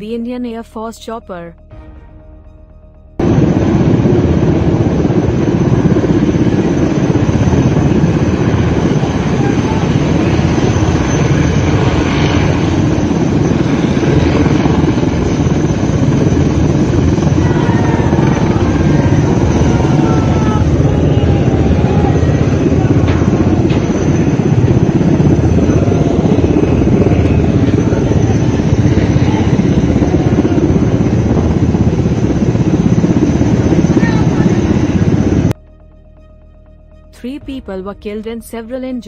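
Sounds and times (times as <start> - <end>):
helicopter hovering: 0.0 - 39.0.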